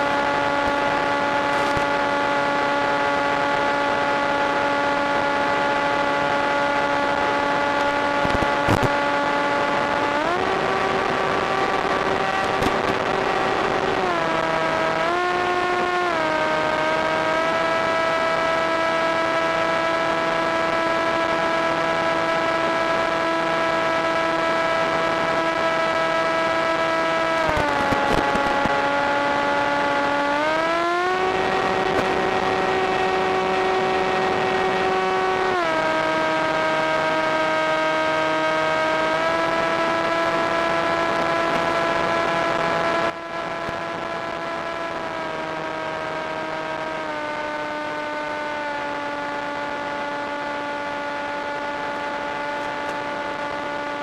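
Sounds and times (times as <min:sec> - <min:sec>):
model airplane motor droning: 0:00.0 - 0:54.0.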